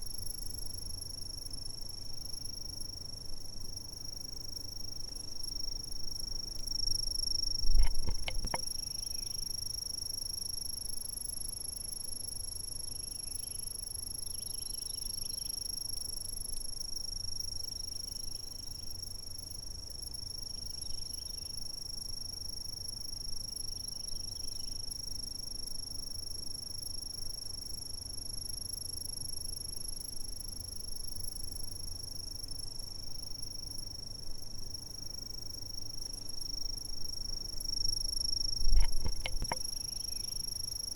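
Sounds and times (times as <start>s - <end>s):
insects trilling: 0.0s - 11.8s, 12.8s - 19.6s, 20.2s - 40.9s
soft insect chirps: 0.0s - 40.9s.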